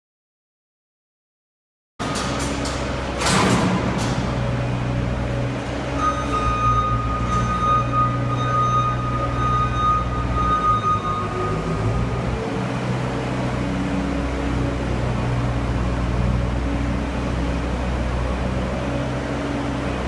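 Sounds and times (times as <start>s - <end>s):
loader engine running under load: 2.0s - 20.0s.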